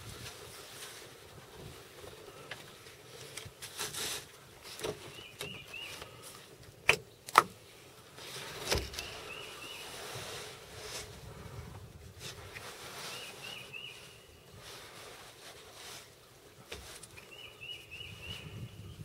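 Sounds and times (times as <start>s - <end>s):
soft rustling near microphone: 0.0s - 6.7s, 7.7s - 19.0s.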